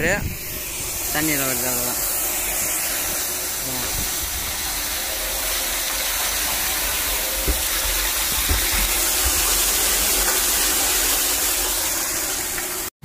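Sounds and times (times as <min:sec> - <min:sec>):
water pouring into a tank: 0:00.5 - 0:12.9
water splashing: 0:00.6 - 0:12.9.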